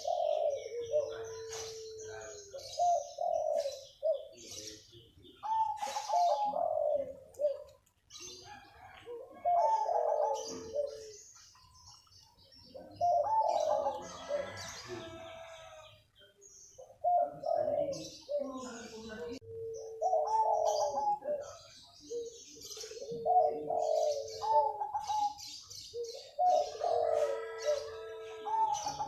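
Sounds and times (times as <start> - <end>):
dove cooing: 0.0 - 12.0, 12.6 - 16.0, 16.8 - 29.0
small birds chirping: 0.0 - 29.0.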